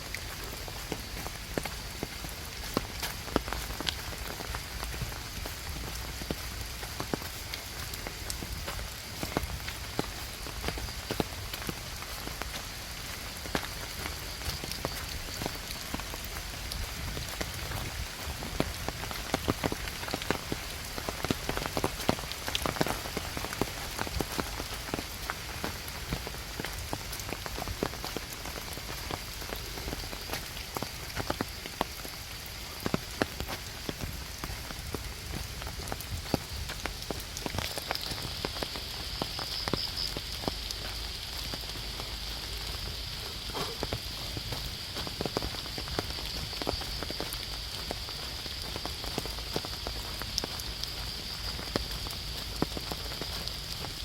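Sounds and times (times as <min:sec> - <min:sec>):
high steady hiss: 0:00.0 - 0:54.0
rain drops ticking: 0:00.0 - 0:54.0.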